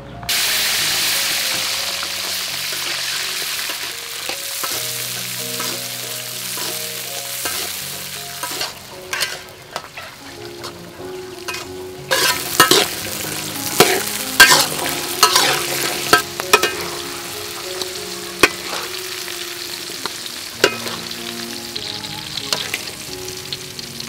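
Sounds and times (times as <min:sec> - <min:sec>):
food sizzling: 0:00.3 - 0:24.0
metal spatula scraping wok: 0:00.8 - 0:21.2.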